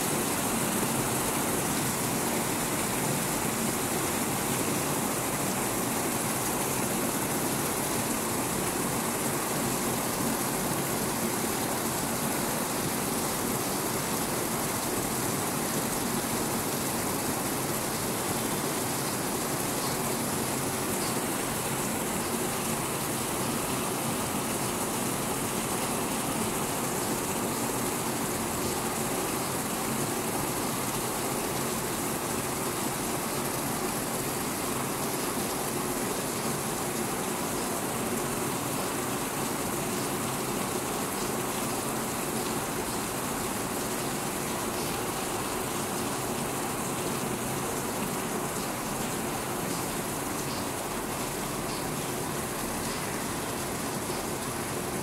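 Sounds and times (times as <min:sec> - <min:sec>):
heavy rain falling: 0:00.0 - 0:55.0
runoff pouring and splashing: 0:00.0 - 0:55.0.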